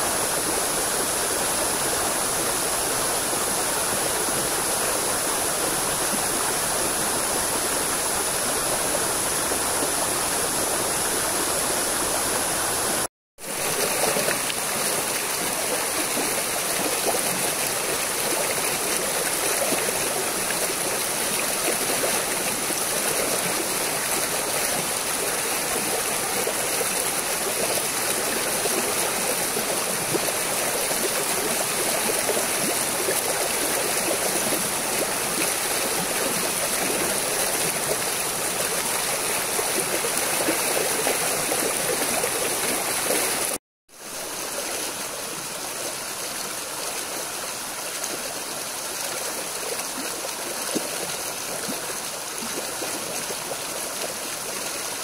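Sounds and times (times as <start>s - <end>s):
stream rushing over rock: 0.0s - 55.0s.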